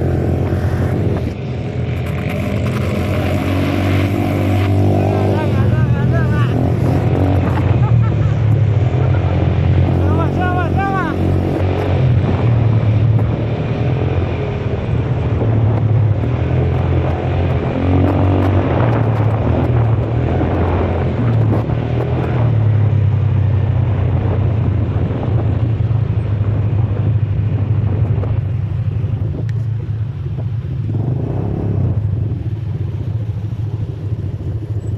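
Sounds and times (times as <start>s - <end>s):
atv engine droning: 0.0s - 34.9s.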